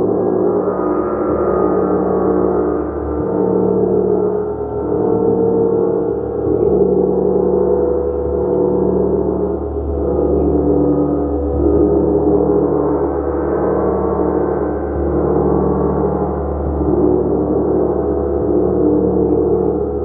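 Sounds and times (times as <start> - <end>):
large gong shimmering drone: 0.0 - 20.0.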